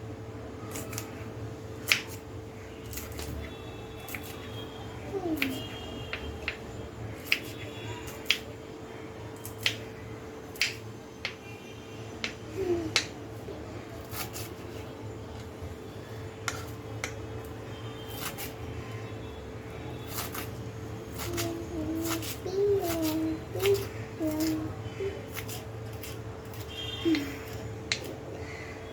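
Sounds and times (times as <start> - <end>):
steady electrical hum: 0.0 - 28.9.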